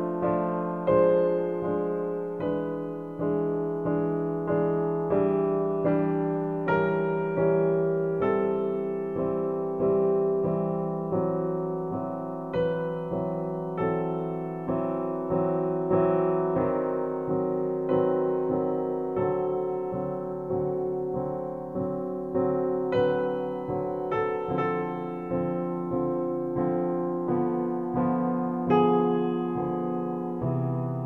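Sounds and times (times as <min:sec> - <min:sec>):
gentle piano chords: 0:00.0 - 0:31.0.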